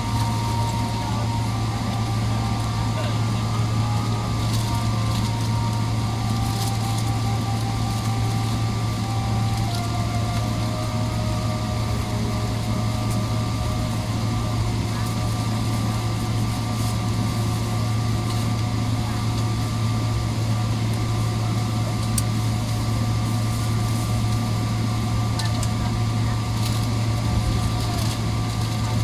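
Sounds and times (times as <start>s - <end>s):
aircraft cabin engine hum: 0.0s - 29.0s.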